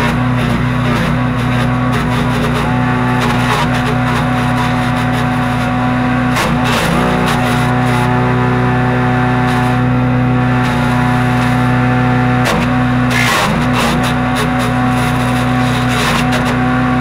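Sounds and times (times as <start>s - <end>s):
branches crackling through chipper: 0.0s - 17.0s
wood chipper engine running: 0.0s - 17.0s.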